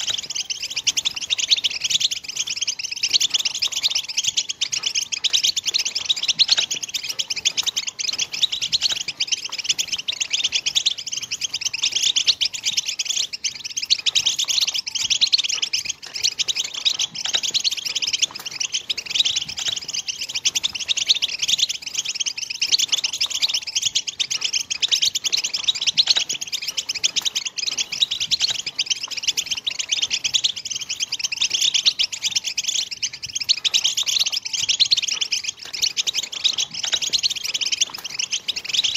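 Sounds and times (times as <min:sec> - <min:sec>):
finch twittering song: 0:00.0 - 0:38.9.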